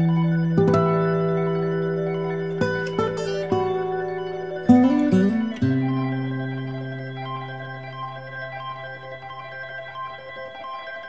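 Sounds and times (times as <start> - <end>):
light melody of single notes: 0.0 - 11.0.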